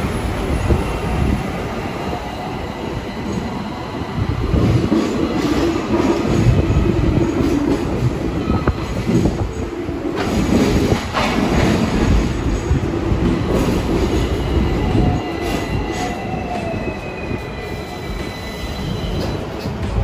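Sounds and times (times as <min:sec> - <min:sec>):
tram wheels rumbling on rail: 0:00.0 - 0:20.0.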